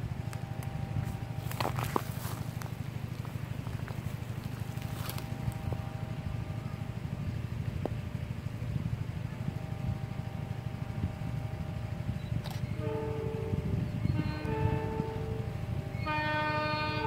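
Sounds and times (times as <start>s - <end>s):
faint steady hum: 0.0s - 17.0s
low rumble of train running: 0.0s - 17.0s.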